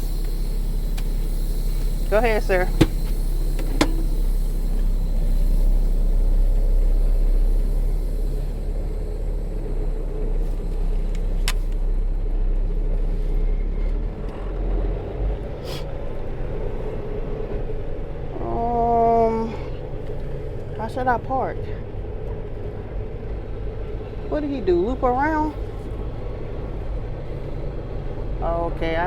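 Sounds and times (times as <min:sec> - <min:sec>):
diesel truck engine rumble: 0:00.0 - 0:29.0.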